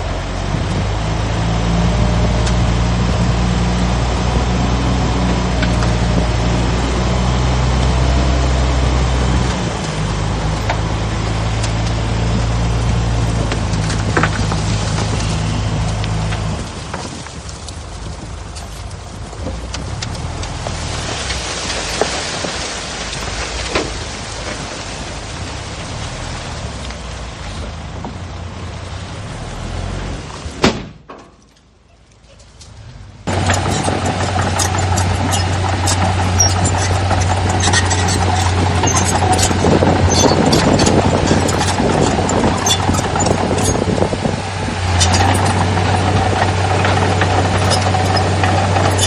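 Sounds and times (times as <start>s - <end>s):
machinery clanking: 0.0s - 24.7s, 33.2s - 49.0s
heavy machinery diesel engines: 0.0s - 49.0s.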